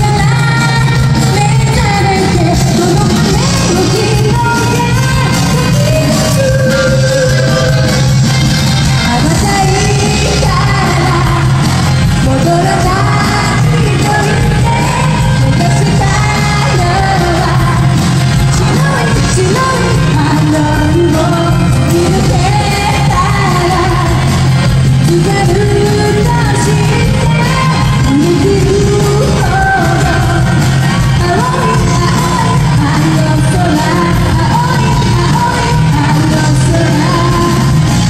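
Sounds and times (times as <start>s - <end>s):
loud backing music: 0.0s - 38.0s
woman singing into microphone: 0.0s - 38.0s.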